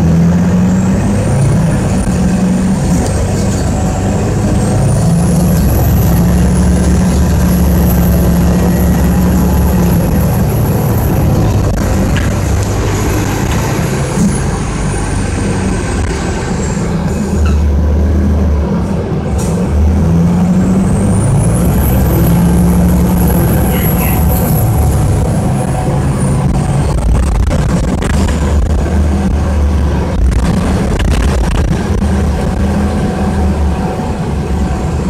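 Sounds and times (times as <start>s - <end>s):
bus engine low rumble: 0.0s - 35.0s.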